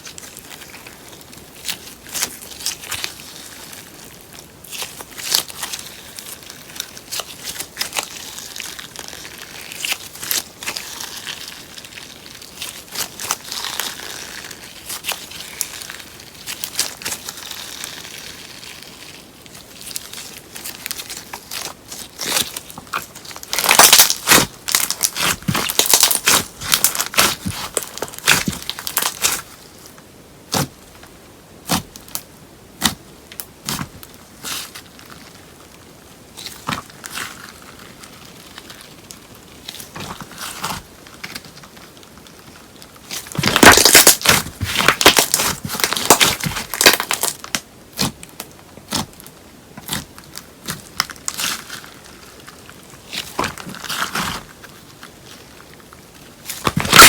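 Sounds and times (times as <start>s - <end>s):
slime crackling while kneaded: 0.0s - 57.0s.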